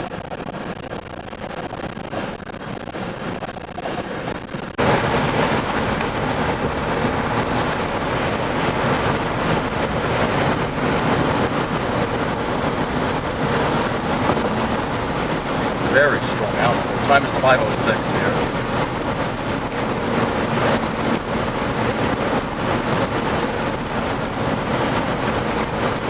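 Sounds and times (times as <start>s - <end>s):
strong wind rushing: 0.0s - 26.0s.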